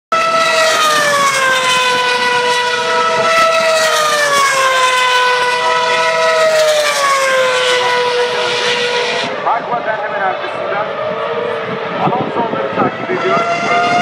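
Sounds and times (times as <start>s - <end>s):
racing car engines screaming past: 0.2s - 14.0s.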